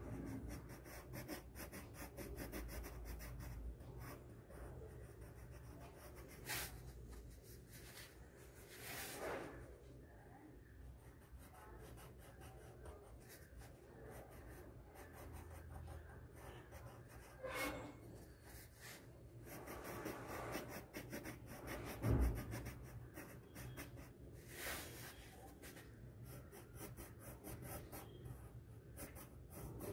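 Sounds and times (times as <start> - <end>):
pencil scratching on paper: 0.0 - 8.1, 10.9 - 29.9.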